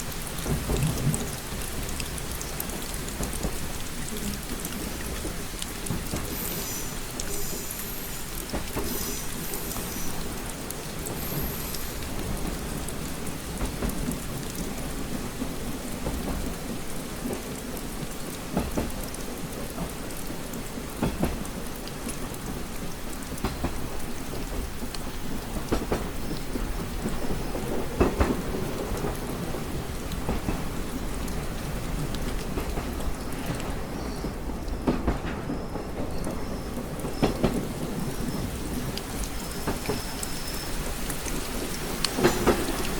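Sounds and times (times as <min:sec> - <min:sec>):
rain on a window: 0:00.0 - 0:42.9.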